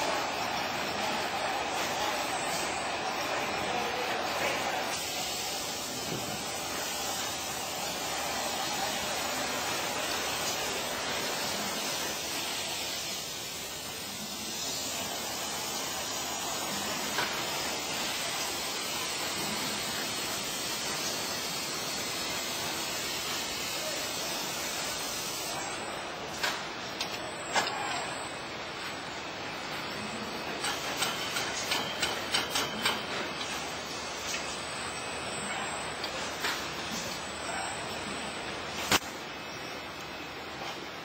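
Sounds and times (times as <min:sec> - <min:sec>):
machinery hissing and running: 0:00.0 - 0:41.0.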